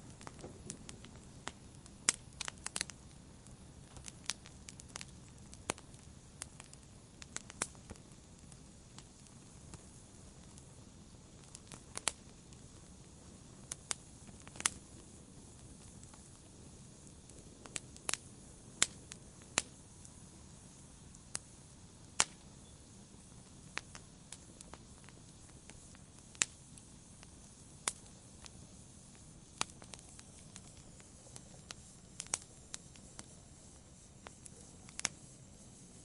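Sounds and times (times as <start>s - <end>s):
faint steady hiss: 0.0s - 36.0s
wood fire crackling: 0.0s - 36.0s.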